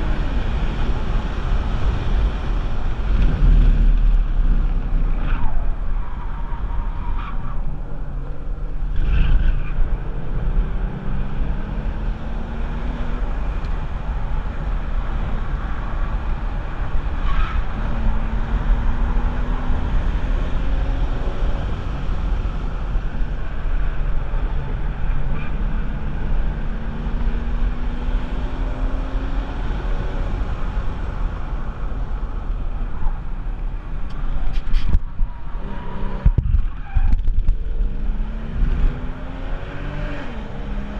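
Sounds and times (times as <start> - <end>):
low rumble of wind and road noise: 0.0 - 40.9.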